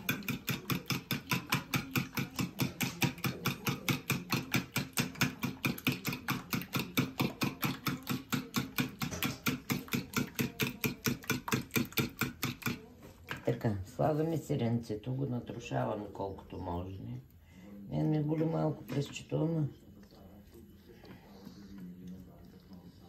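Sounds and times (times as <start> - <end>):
spoon beating eggs in plastic bowl: 0.0 - 23.0.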